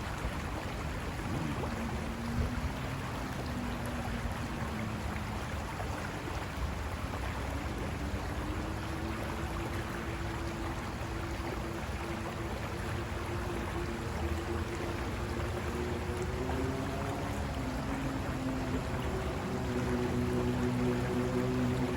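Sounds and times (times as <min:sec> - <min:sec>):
faint low hum: 0:00.0 - 0:21.9
river water rushing over rocks: 0:00.0 - 0:21.9.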